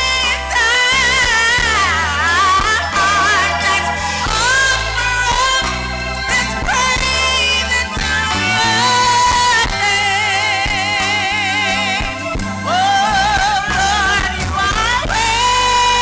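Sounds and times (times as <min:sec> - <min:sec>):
bass and drums: 0:00.0 - 0:16.0
person singing gospel: 0:00.0 - 0:16.0.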